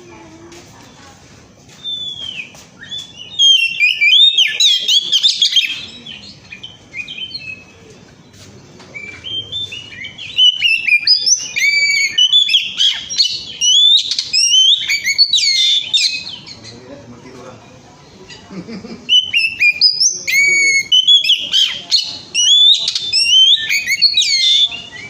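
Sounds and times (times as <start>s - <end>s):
songbird whistled song: 1.7s - 16.8s, 19.0s - 25.0s.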